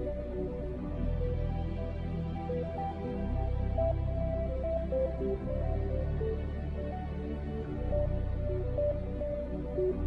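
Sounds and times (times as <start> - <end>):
soft melodic background music: 0.0 - 10.0.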